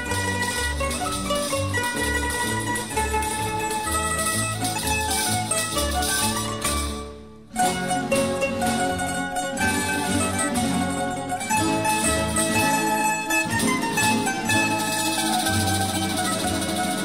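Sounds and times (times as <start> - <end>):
plucked string music: 0.0 - 17.0.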